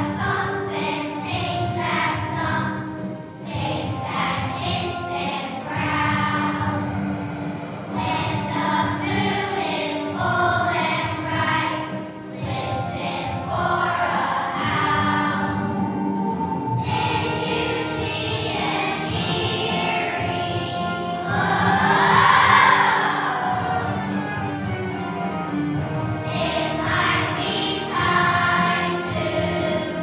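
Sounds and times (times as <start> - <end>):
children's choir singing: 0.0 - 30.0
instrumental backing music: 0.0 - 30.0.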